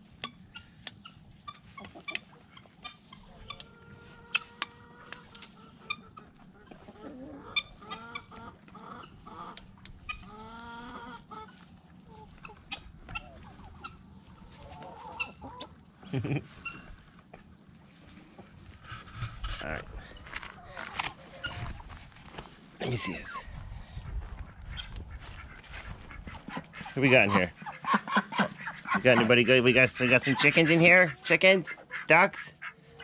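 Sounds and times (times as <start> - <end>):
chickens clucking and calling: 0.0 - 33.0.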